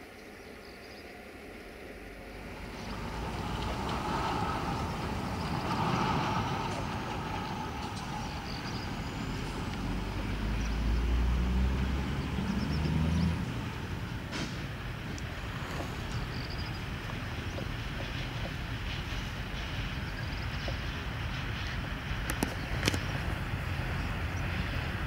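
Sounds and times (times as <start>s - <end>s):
locomotive diesel engine rumble: 0.5s - 25.0s.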